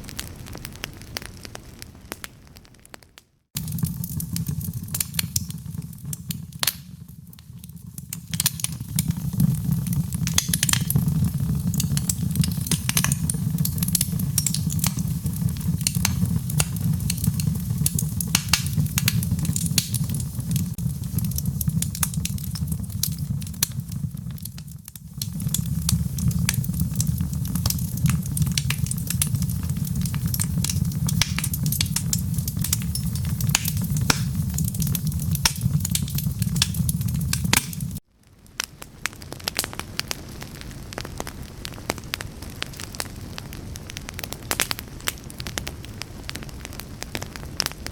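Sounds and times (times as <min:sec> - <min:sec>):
fire crackling and popping: 0:00.0 - 0:47.9
fire low rumble: 0:00.0 - 0:47.9.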